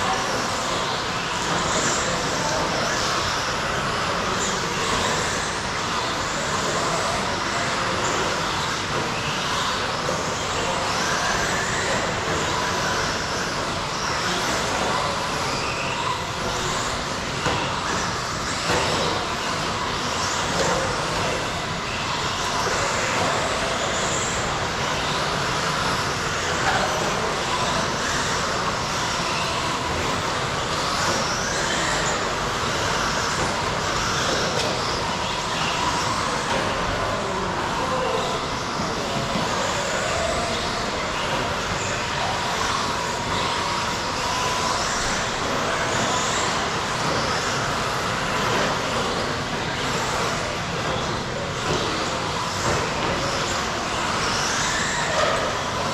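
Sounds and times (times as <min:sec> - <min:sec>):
electric motors whining: 0:00.0 - 0:55.9.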